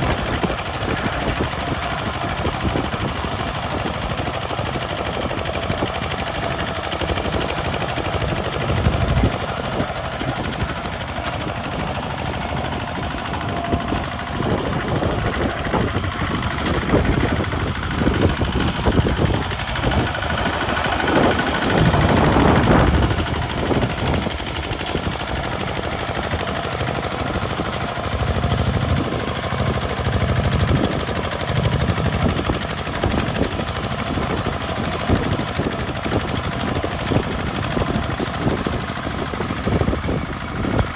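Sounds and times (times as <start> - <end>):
diesel tractor engine chugging: 0.0 - 40.9.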